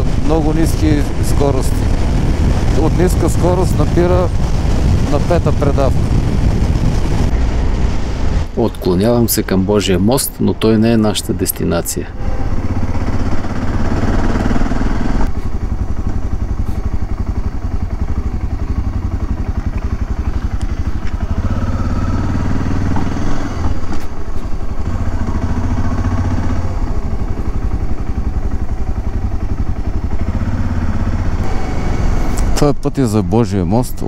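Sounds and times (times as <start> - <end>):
motorcycle engine running: 0.0 - 8.6, 10.2 - 34.0.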